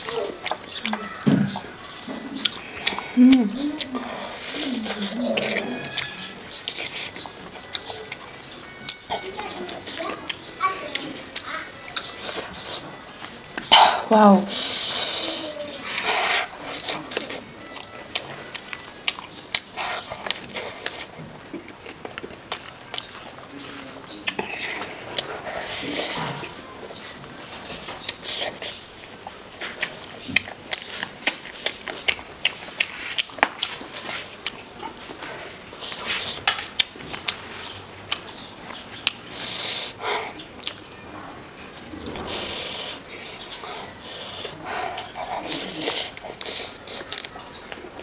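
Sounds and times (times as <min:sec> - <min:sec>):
mouth clicks and smacks: 0:00.0 - 0:13.9, 0:14.5 - 0:26.6, 0:27.6 - 0:41.0, 0:41.9 - 0:48.0
person chewing food: 0:00.0 - 0:48.0.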